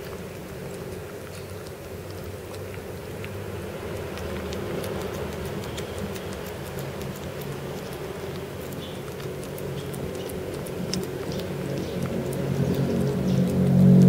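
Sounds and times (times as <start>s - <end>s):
kittens chewing and licking: 0.0s - 14.0s
steady low hum: 0.0s - 14.0s.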